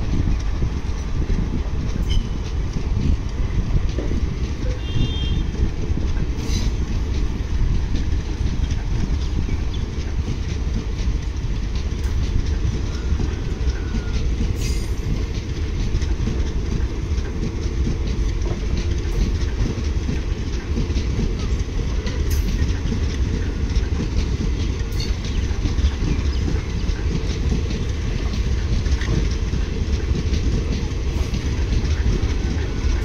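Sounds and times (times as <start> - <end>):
train wheels rumbling on rail: 0.0 - 33.0
wheels clacking over track: 0.0 - 33.0.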